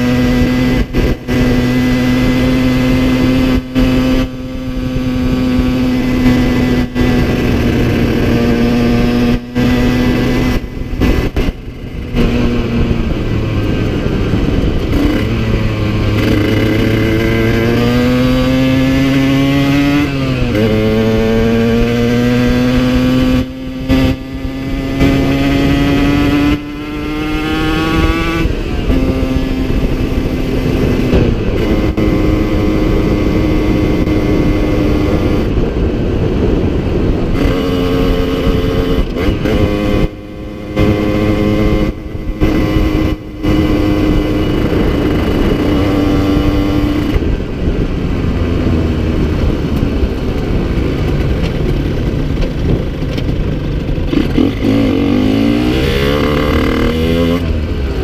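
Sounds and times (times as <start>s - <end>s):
two-stroke motorcycle engine: 0.0s - 58.0s
wind rush: 0.0s - 58.0s.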